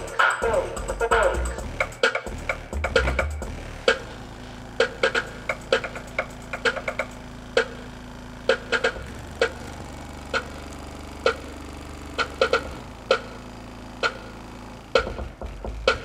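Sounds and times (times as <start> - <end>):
deep bass tone from woofer: 0.0 - 16.0.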